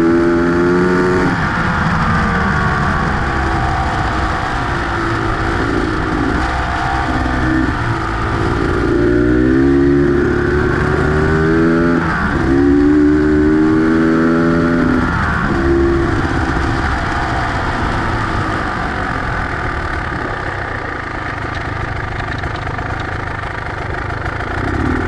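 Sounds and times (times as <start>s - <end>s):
two-stroke engine accelerating: 0.0s - 25.0s.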